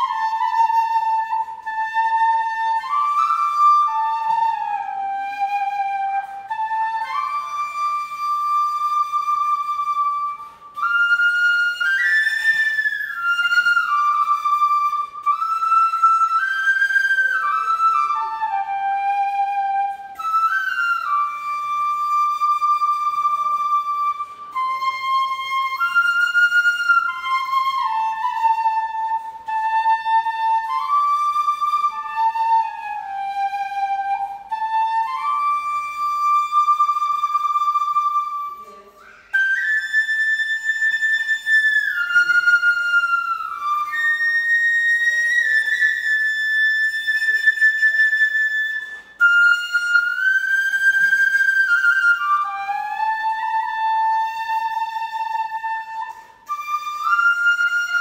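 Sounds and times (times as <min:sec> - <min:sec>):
bamboo flute slow melody: 0:00.0 - 0:58.0.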